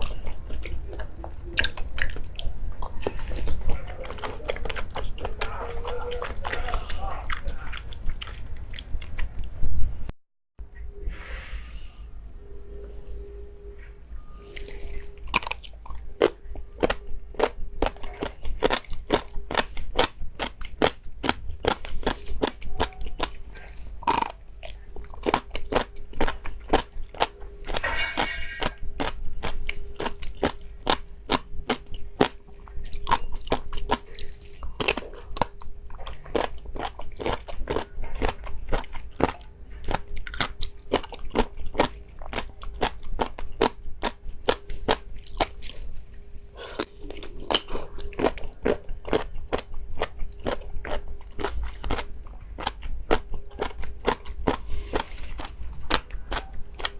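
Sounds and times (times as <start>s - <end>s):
crunchy food being chewed: 0.0s - 9.6s, 14.2s - 56.9s.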